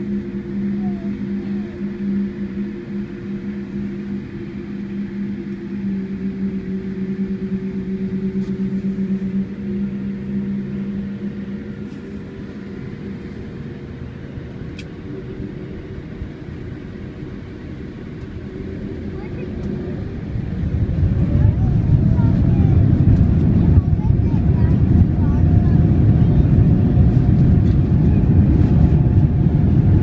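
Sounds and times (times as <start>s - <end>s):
airplane cabin hum and rumble: 0.0s - 30.0s
deep pulsing drone: 0.0s - 30.0s.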